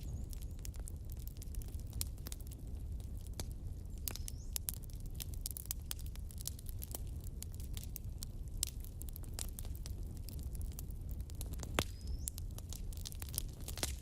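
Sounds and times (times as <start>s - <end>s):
burning logs popping and snapping: 0.0s - 14.0s
low rumble of flames: 0.0s - 14.0s.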